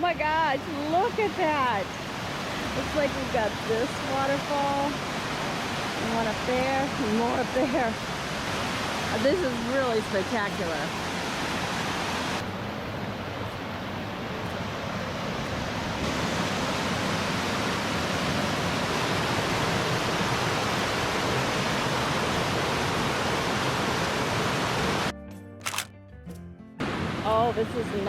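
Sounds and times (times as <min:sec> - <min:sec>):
waterfall roaring: 0:00.0 - 0:25.1.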